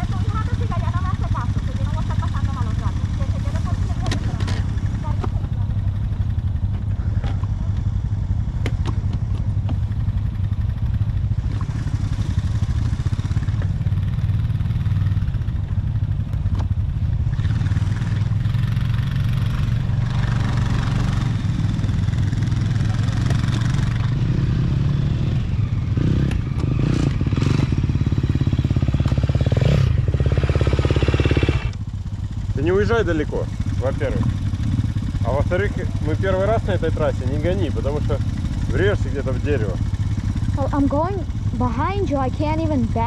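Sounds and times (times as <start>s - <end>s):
two-stroke engine running: 0.0s - 43.0s.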